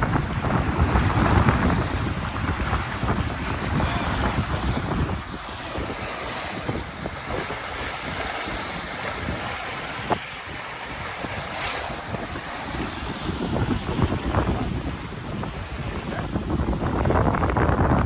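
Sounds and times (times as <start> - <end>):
water splashing along hull: 0.0 - 18.0
wind buffeting microphone: 0.0 - 18.0.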